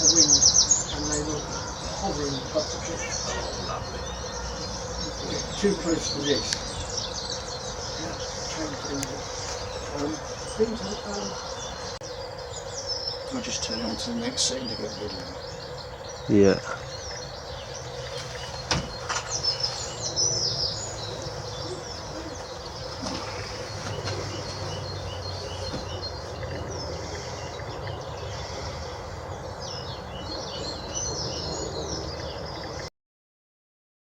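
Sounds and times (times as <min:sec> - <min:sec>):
outdoor background noise: 0:00.0 - 0:32.9
small birds chirping: 0:00.0 - 0:32.9.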